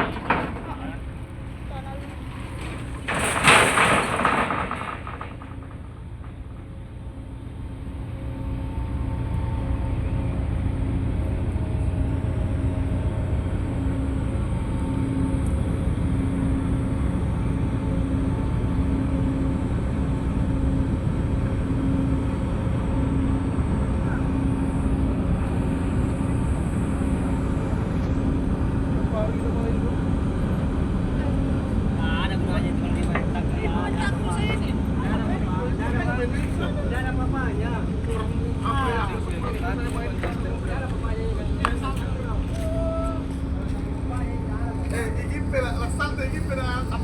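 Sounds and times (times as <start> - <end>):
ship engine rumbling: 0.0 - 47.0.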